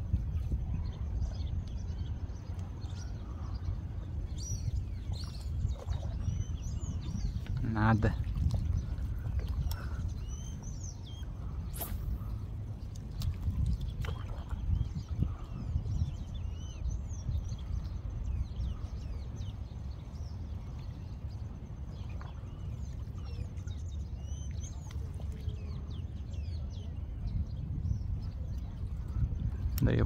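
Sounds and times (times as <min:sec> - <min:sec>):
sea at rocky shore: 0:00.0 - 0:30.0
small birds chirping: 0:00.0 - 0:30.0
wind: 0:00.0 - 0:30.0.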